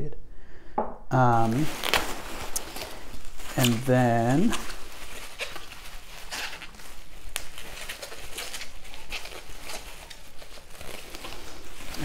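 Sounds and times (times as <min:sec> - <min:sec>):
bubble wrap crinkling: 0:01.3 - 0:12.0.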